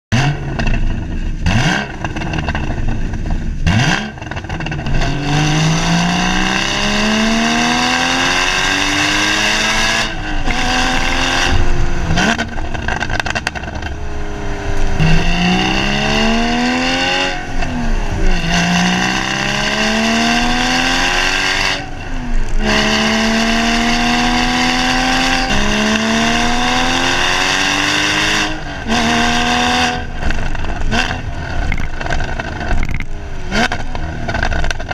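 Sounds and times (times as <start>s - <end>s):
car exhaust accelerating hard: 0.1s - 34.9s.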